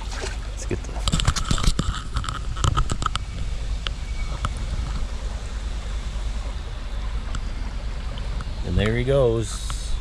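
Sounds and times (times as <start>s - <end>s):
small stream flowing: 0.0s - 10.0s
wind rumble on microphone: 0.0s - 10.0s.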